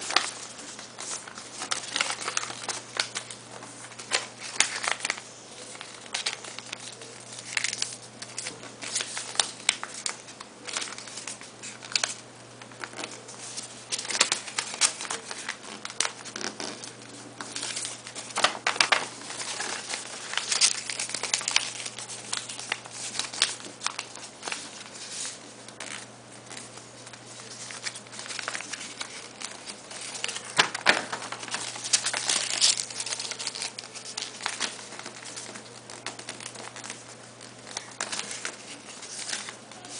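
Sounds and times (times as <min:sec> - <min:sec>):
paper crackling as folds pressed: 0:00.0 - 0:39.9
paper rustling and crinkling: 0:00.0 - 0:39.9.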